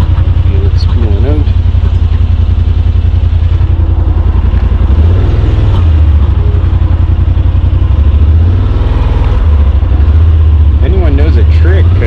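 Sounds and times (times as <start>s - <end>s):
engine throbbing idle: 0.0s - 12.0s.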